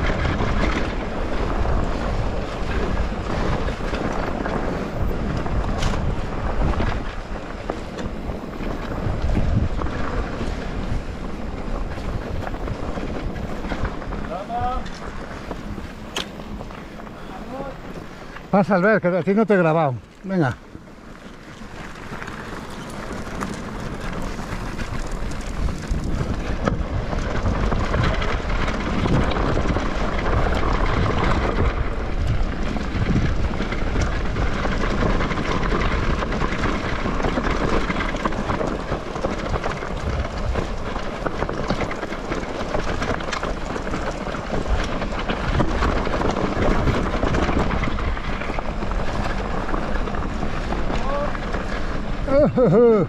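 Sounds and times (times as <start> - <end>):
bike rattling over bumps: 0.0 - 53.0
tyres crunching over stones: 0.0 - 53.0
wind buffeting microphone: 0.0 - 53.0.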